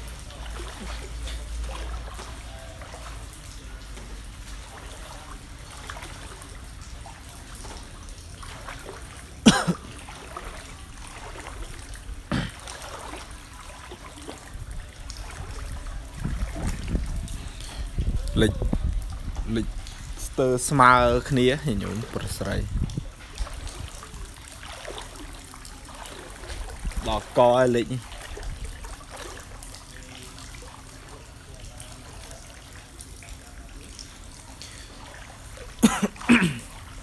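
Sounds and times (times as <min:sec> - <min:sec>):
floodwater trickling and lapping: 0:00.0 - 0:37.0.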